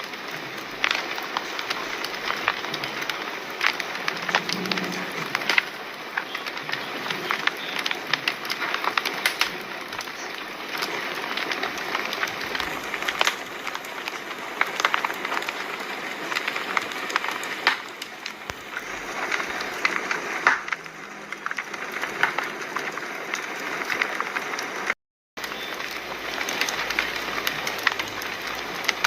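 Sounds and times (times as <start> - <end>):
steady fire hiss: 0.0 - 29.0
wood fire crackling and popping: 0.0 - 29.0.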